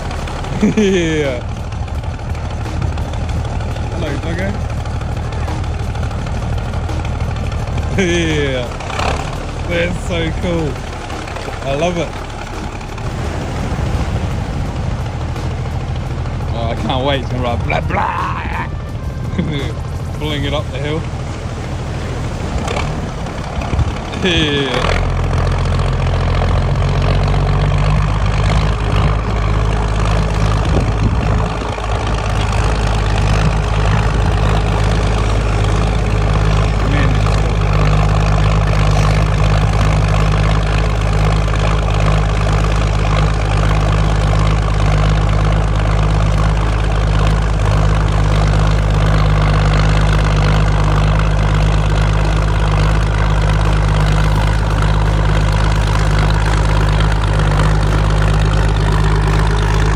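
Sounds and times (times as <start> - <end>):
heavy engine humming: 0.0 - 59.9.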